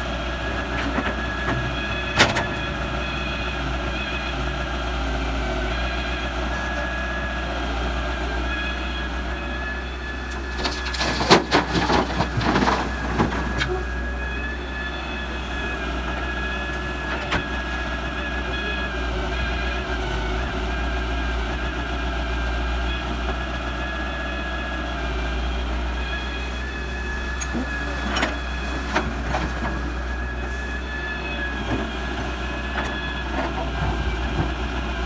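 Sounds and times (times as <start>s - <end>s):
diesel machinery running: 0.0s - 35.0s.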